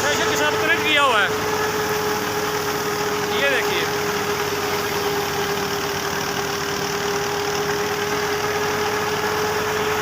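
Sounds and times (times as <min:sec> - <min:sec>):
thresher machinery whine: 0:00.0 - 0:10.0
tractor engine running: 0:00.0 - 0:10.0.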